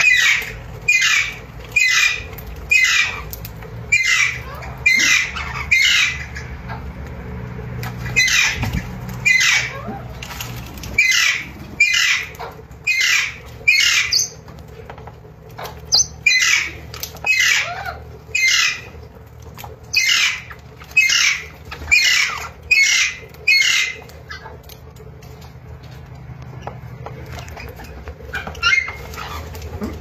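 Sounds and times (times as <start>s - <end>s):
parakeets squawking: 0.0s - 30.0s.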